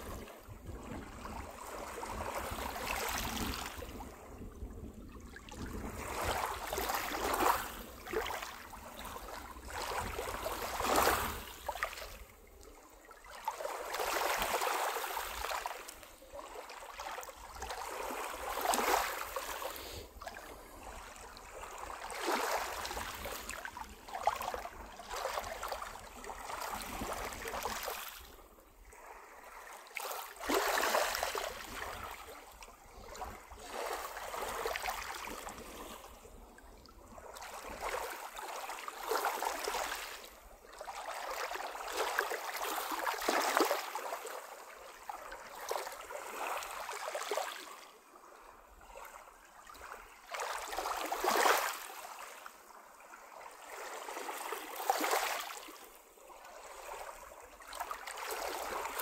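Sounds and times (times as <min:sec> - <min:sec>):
small waves lapping on beach: 0:00.0 - 0:59.0.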